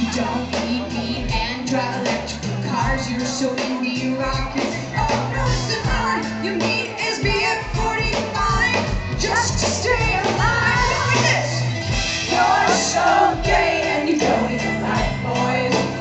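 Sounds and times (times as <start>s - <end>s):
pop-rock band playing: 0.0s - 16.0s
woman singing: 0.0s - 16.0s.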